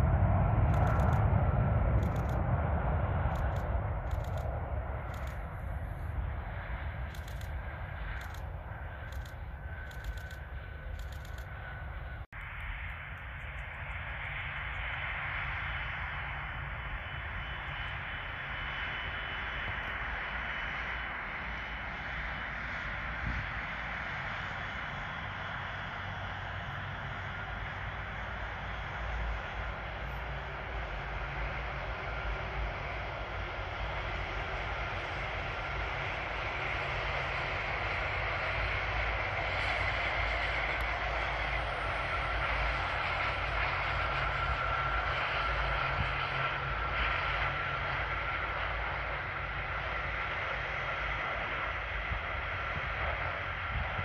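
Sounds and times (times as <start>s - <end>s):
jet engines taxiing: 0.0s - 54.0s.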